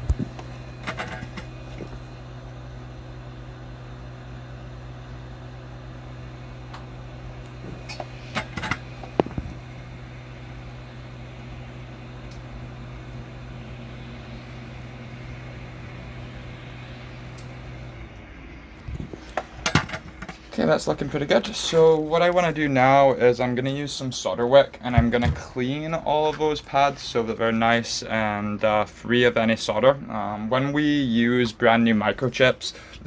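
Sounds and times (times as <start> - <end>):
small fan motor humming: 0.0 - 33.0.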